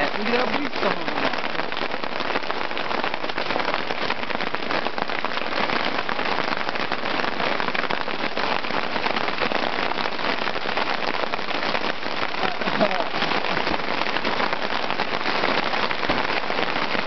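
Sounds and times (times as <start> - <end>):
hail pelting down: 0.0 - 17.0.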